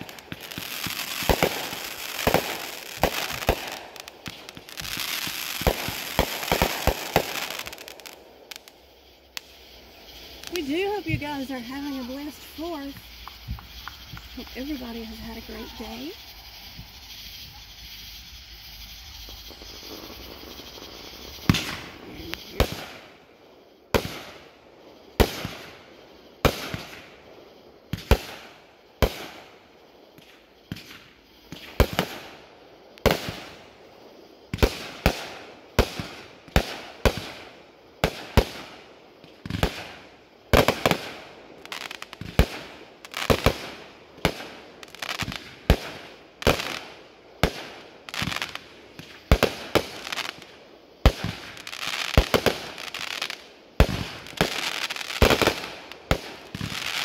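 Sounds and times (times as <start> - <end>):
fireworks bursting with sharp bangs: 0.0 - 57.0
fireworks crackling: 0.0 - 57.0.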